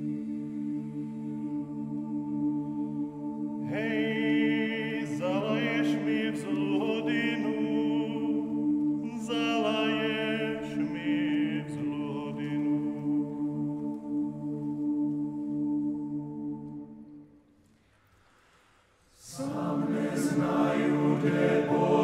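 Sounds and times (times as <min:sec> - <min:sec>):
men's choir singing a cappella: 0:00.0 - 0:17.1, 0:19.2 - 0:22.0.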